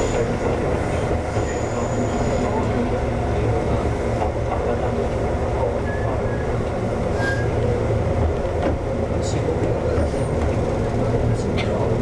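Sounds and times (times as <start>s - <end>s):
wheels rumbling on rail: 0.0s - 12.0s.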